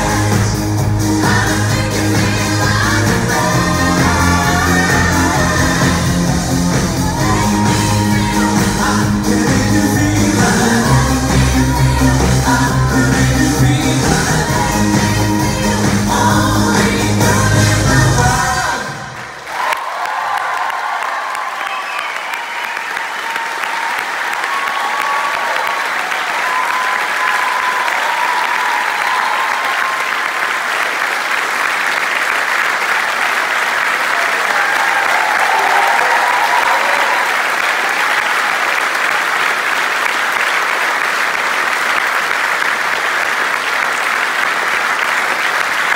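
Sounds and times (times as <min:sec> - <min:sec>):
audience applauding: 0:00.0 - 0:45.9.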